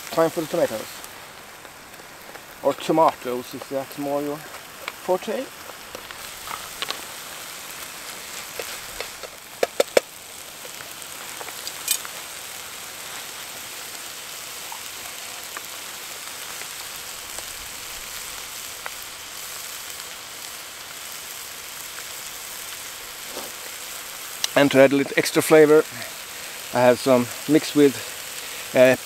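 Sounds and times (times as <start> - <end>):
food sizzling in a frying pan: 0.0 - 29.0.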